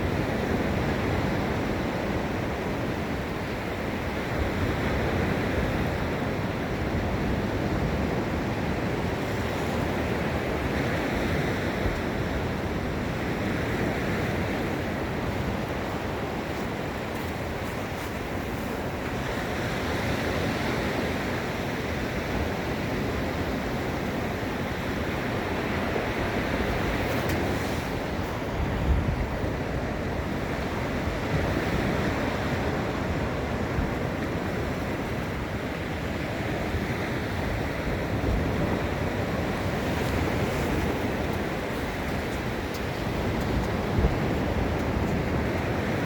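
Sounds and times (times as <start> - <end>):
ocean waves breaking on beach: 0.0 - 46.0
wind buffeting microphone: 0.0 - 46.0.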